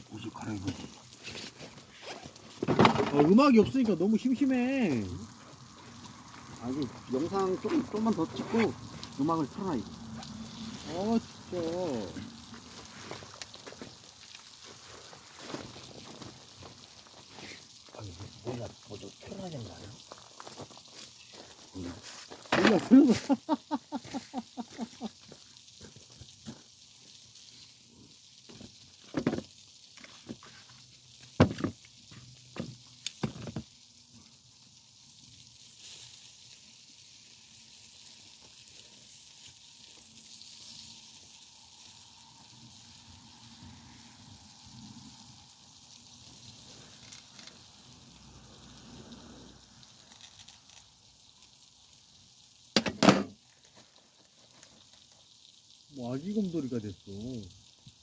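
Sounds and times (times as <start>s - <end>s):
food sizzling over fire: 0.0s - 58.0s.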